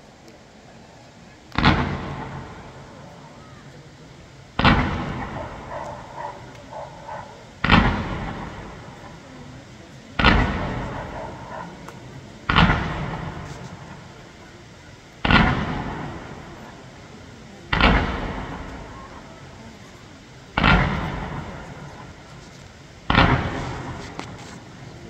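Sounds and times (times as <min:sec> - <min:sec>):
fireworks booming: 0:01.5 - 0:25.0.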